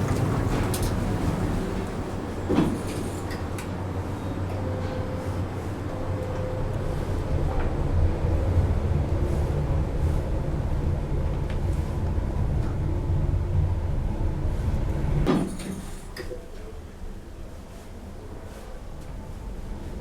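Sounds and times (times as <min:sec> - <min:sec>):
lift low rumble: 0:00.0 - 0:15.3, 0:18.2 - 0:20.0.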